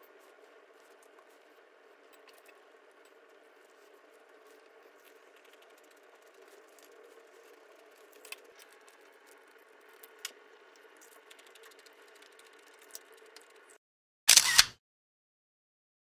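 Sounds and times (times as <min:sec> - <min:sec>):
faint room hum: 0:00.0 - 0:13.8.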